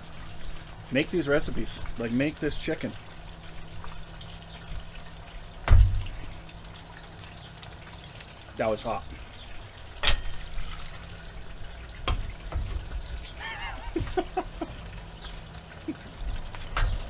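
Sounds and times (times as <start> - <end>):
hot oil bubbling: 0.0 - 17.0.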